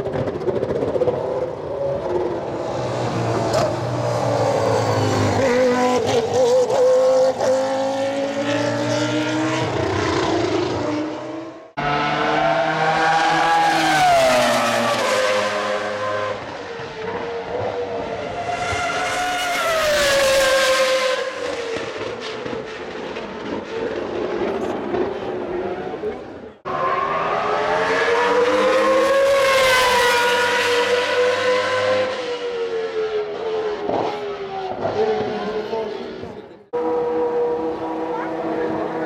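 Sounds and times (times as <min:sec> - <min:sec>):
race car engine at high revs: 0:00.0 - 0:39.0
race cars passing at speed: 0:00.0 - 0:39.0.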